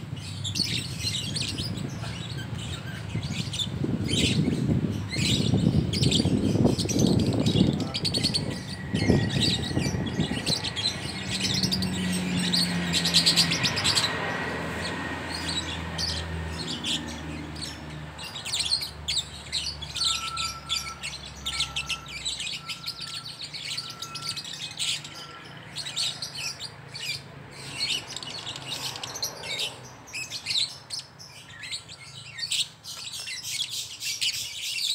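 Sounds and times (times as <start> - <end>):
lovebirds chattering and squabbling: 0.0 - 34.9.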